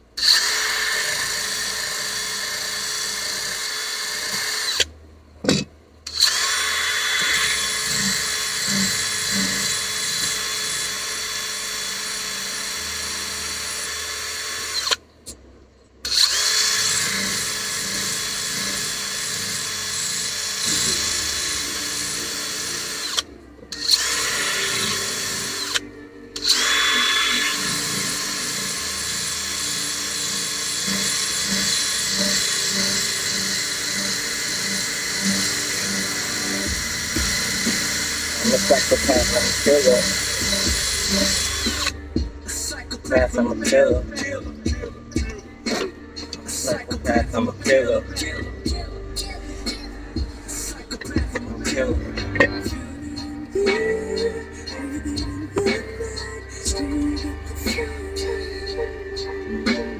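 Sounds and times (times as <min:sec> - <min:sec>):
drill grinding steel: 0:00.2 - 0:15.0, 0:16.0 - 0:59.9.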